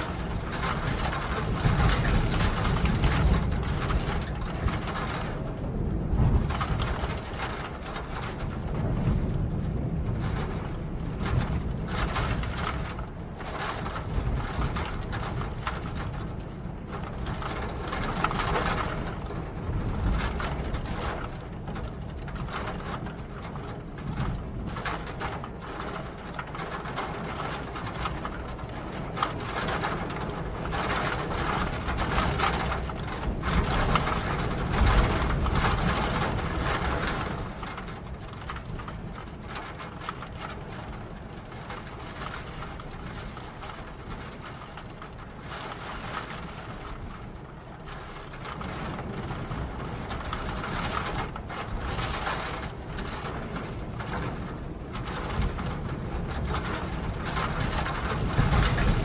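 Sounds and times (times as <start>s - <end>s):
steady rain patter: 0.0s - 59.0s.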